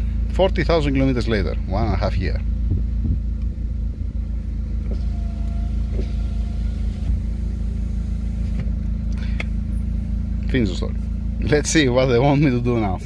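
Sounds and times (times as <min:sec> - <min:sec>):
petrol engine idling: 0:00.0 - 0:13.0.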